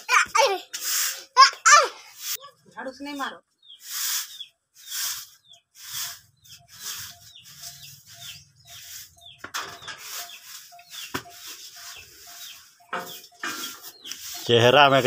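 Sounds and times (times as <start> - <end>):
broom sweeping: 0.4 - 2.5, 3.8 - 15.0.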